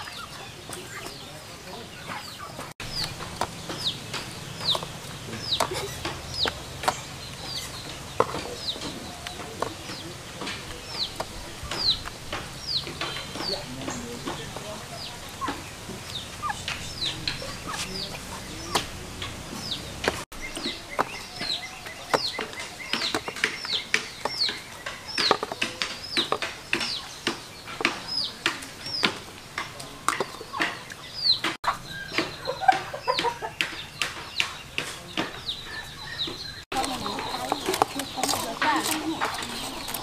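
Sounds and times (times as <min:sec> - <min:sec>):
chickens peeping: 0:00.0 - 0:40.0.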